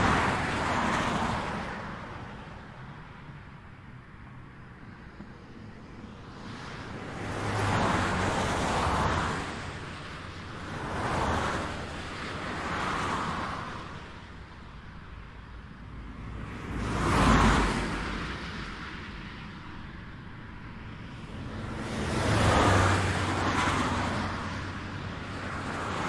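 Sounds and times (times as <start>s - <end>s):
vehicles passing on highway: 0.0s - 26.0s.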